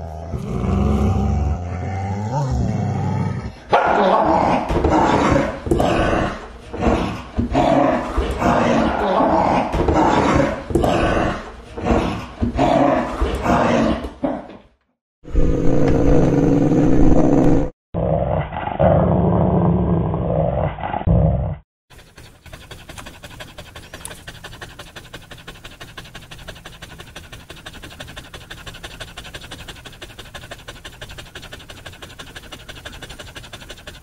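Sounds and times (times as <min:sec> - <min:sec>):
dog growling: 0:00.0 - 0:14.5, 0:18.3 - 0:34.0.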